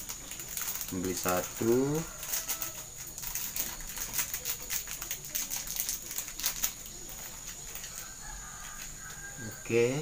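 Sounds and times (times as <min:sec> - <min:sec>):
plastic packet crinkling: 0:00.0 - 0:09.3.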